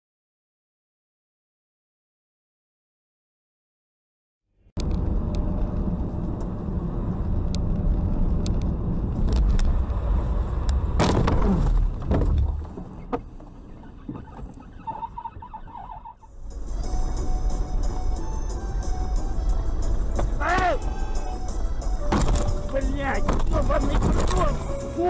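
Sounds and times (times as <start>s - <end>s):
car engine and tyres rumbling: 4.7s - 25.0s.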